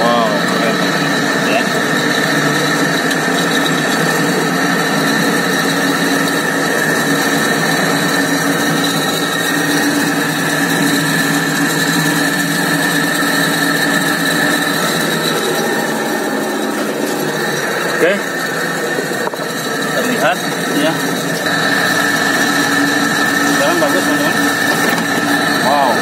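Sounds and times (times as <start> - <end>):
spin-dryer motor humming and whining: 0.0 - 26.0.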